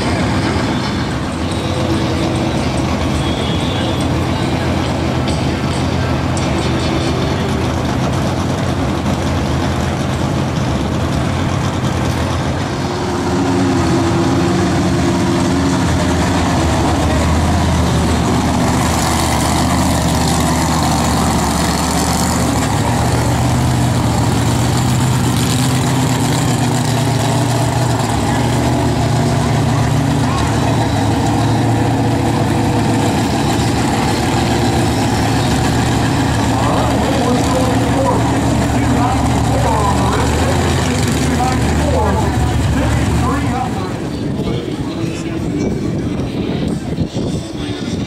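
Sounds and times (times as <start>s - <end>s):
car engines idling and passing: 0.0s - 48.0s.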